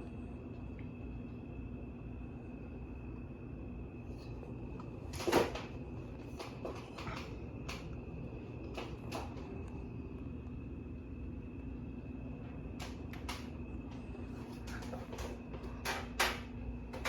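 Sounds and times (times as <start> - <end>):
ceiling fan humming with whine: 0.0 - 17.0.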